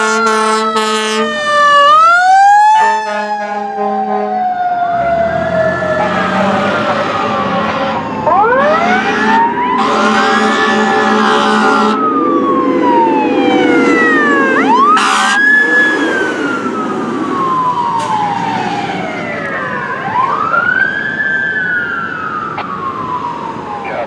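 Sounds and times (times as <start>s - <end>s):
siren wailing: 0.0s - 24.0s.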